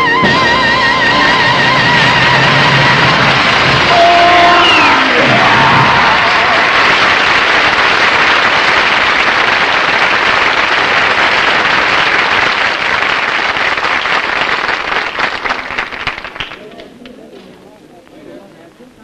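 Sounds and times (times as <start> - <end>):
audience applauding: 1.0 - 17.2.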